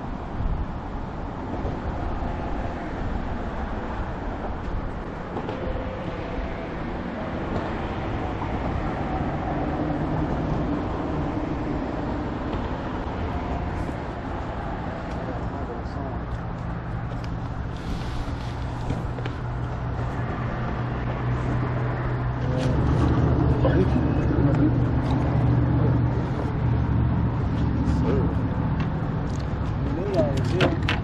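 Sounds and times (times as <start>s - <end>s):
vehicle rumbling in motion: 0.0s - 31.0s.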